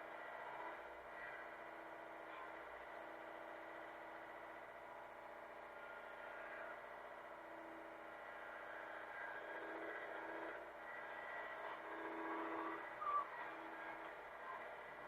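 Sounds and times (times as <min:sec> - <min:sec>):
excavator engine droning: 0:00.0 - 0:15.0.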